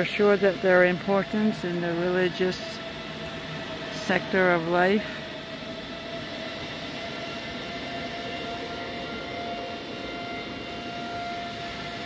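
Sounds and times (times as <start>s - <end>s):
constant whine: 0.0s - 12.0s
machinery hum: 0.0s - 12.0s.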